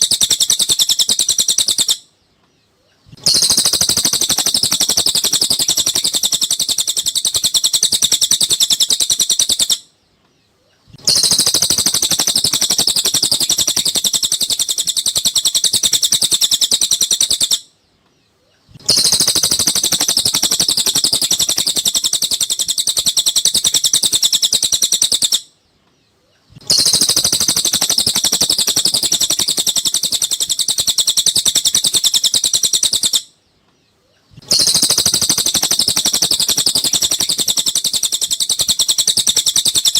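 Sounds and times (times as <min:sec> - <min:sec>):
rapid high bird chirping: 0:00.0 - 0:39.9.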